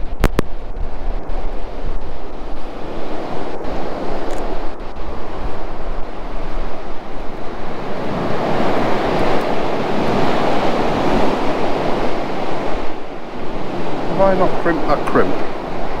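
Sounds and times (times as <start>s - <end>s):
sea surf washing onto beach: 0.0s - 16.0s
wind buffeting microphone: 0.0s - 16.0s.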